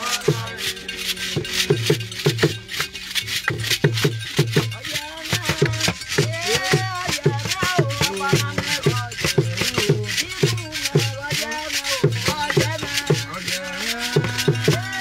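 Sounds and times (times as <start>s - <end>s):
voices singing: 0.0s - 3.8s, 4.5s - 15.0s
drumming with steady low beat: 0.0s - 15.0s
shaken rattle strokes: 0.0s - 15.0s.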